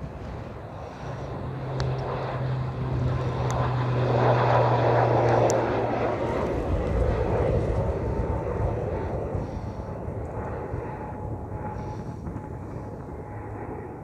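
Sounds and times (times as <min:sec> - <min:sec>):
airliner passing close by: 0:00.0 - 0:14.0
steady low hum: 0:00.0 - 0:14.0
wind rumbling on microphone: 0:00.0 - 0:14.0.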